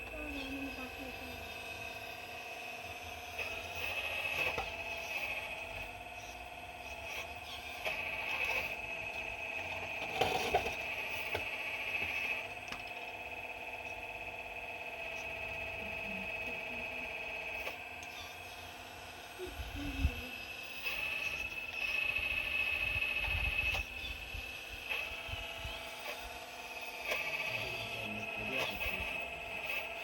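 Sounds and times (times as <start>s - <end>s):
excavator mechanical whine: 0.0s - 30.0s.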